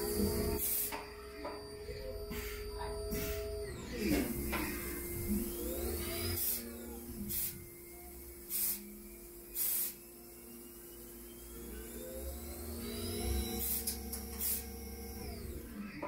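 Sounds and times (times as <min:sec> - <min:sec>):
lathe spindle hum: 0:00.0 - 0:16.0
tool slide whining: 0:00.0 - 0:16.0.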